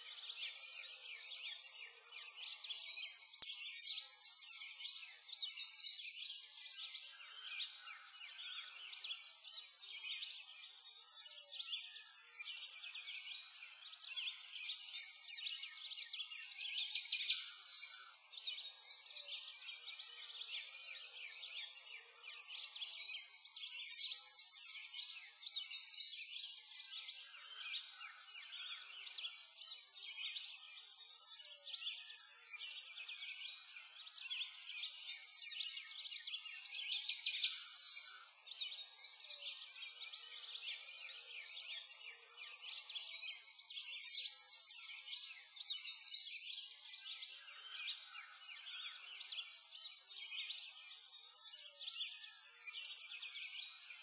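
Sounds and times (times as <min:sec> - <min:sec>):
songbirds chorus: 0:00.0 - 0:54.0.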